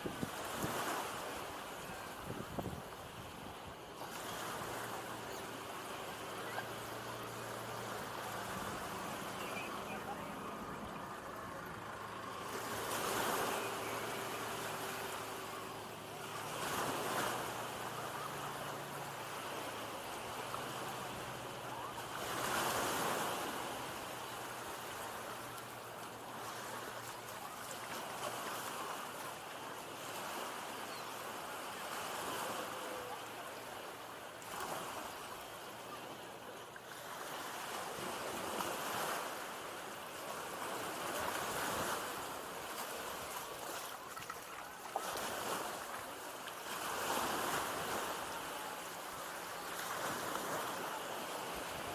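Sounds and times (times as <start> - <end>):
small waves breaking on sand: 0.0 - 51.9.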